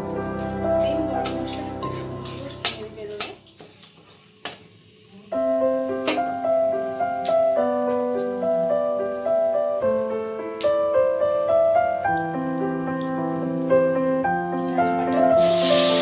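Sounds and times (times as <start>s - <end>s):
piano music with bass: 0.0s - 3.6s, 5.4s - 16.0s.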